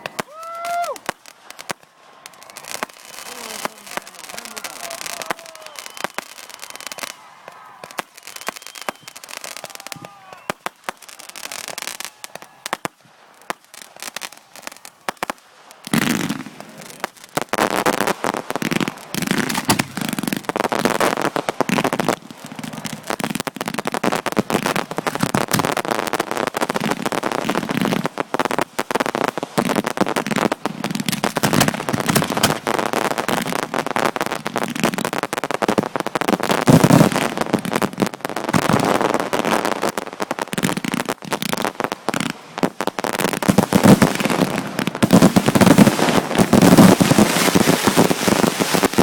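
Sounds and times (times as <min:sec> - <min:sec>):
fireworks bangs and pops: 0:00.0 - 0:49.0.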